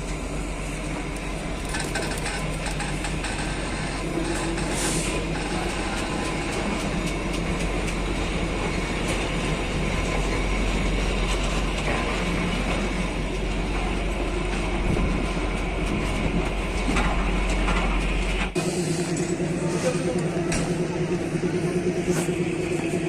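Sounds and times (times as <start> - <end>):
train rumble: 0.0 - 23.0
wheels clicking over rail joints: 0.8 - 20.8.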